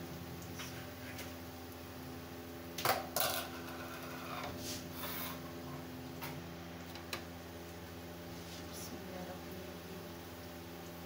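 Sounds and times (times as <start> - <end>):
background hum: 0.0 - 11.0
bread sizzling in hot oil: 0.0 - 11.0.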